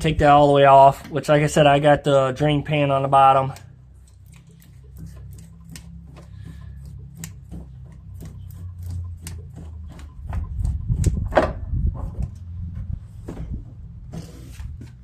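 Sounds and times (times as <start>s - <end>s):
low rumble of handling: 2.4s - 15.0s.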